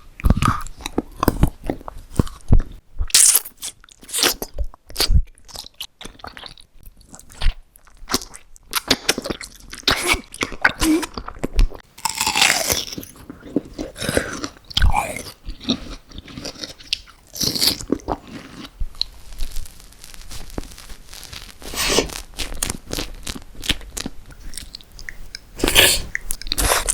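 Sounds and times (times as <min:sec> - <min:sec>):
crisp bites and crunchy chewing: 0:00.2 - 0:26.9.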